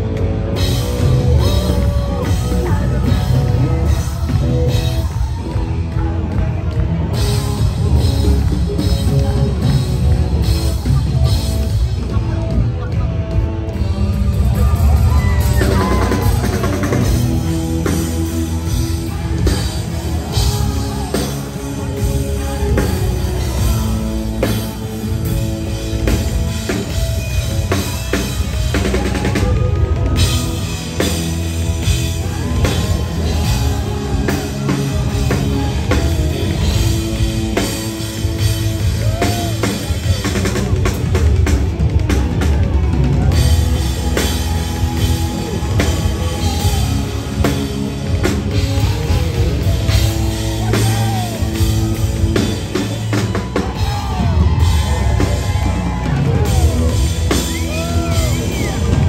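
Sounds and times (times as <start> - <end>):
drum kit: 0.0 - 59.0
electric guitar: 0.0 - 59.0
piano: 0.0 - 59.0.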